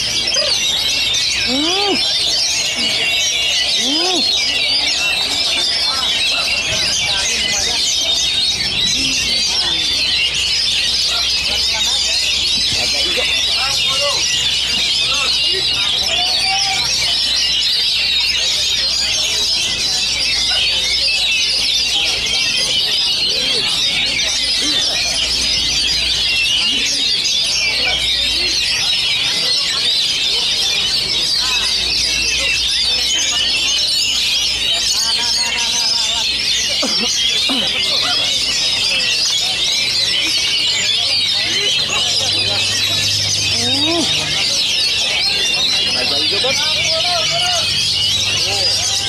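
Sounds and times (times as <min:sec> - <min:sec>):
caged songbirds singing: 0:00.0 - 0:49.0.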